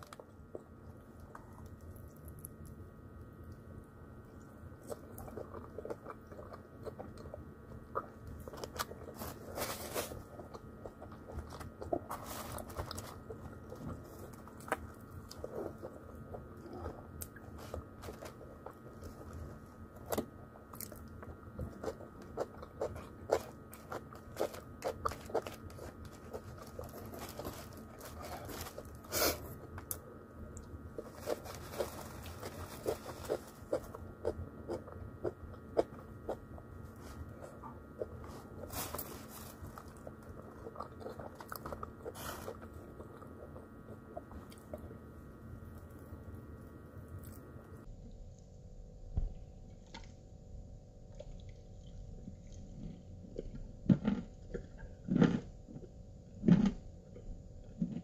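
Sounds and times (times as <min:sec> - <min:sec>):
chewing crispy fried chicken: 0:00.0 - 0:47.9, 0:49.7 - 0:50.2, 0:51.0 - 0:58.0
faint steady hum: 0:00.0 - 0:58.0.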